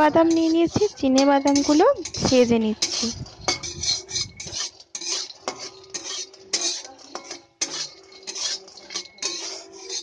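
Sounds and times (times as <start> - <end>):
metal spatula scraping peanuts: 0.0 - 10.0.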